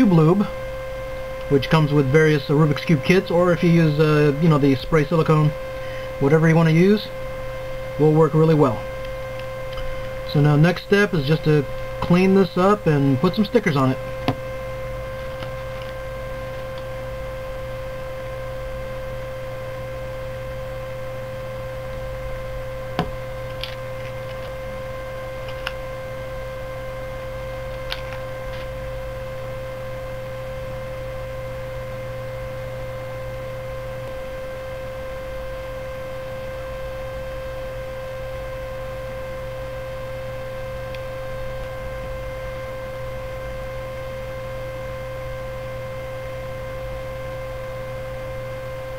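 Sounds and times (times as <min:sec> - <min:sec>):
electrical hum with whine: 0:00.0 - 0:48.9.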